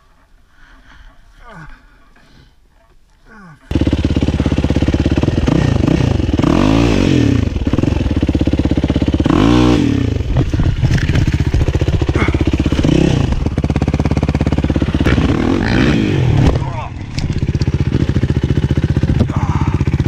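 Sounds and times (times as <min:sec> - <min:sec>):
motorcycle engine revving: 0:03.7 - 0:20.0.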